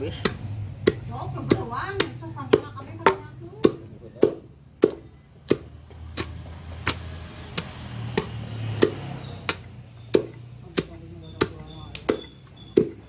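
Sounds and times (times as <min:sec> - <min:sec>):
wooden pestle pounding in mortar: 0:00.0 - 0:13.0.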